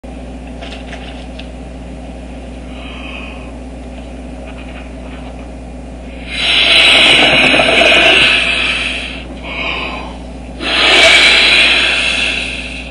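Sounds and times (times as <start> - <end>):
low background hum: 0.0 - 12.9.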